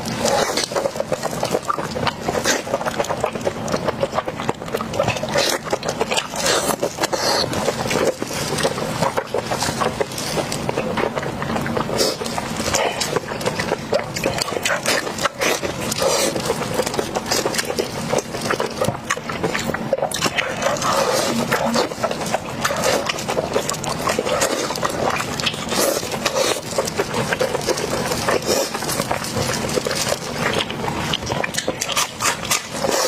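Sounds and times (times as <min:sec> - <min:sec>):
wet chewing and crunching: 0:00.0 - 0:33.0.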